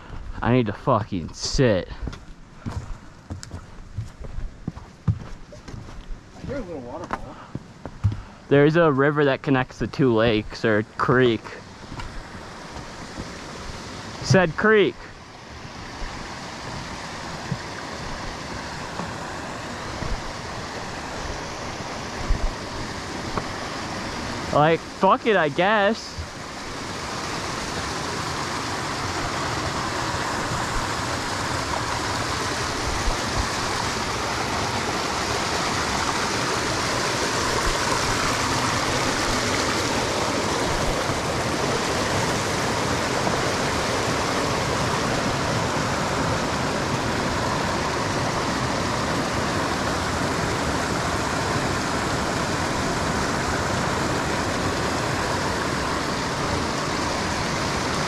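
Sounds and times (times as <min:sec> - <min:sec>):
waterfall rushing water: 0:08.4 - 0:58.0.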